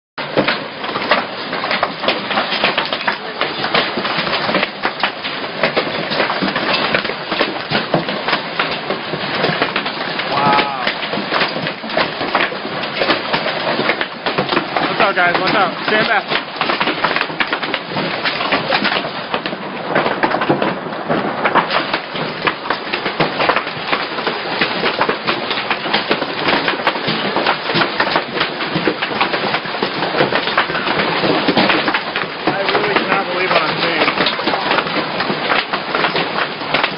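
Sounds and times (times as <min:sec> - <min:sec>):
hailstones pelting down: 0:00.2 - 0:36.9.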